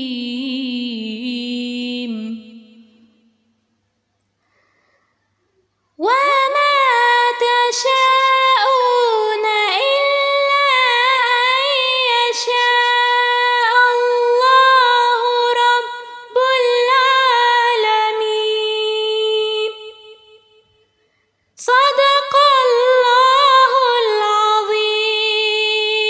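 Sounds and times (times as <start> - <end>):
woman chanting recitation: 0.0 - 3.2, 6.0 - 20.5, 21.6 - 26.0.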